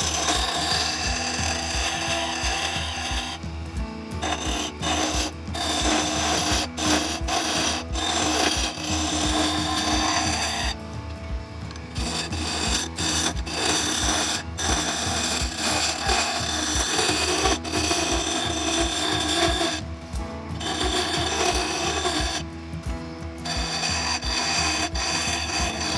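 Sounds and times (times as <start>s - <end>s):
turning tool rasping on wood: 0.0s - 11.0s, 11.7s - 22.6s, 23.3s - 25.9s
lathe motor hum: 0.0s - 25.9s.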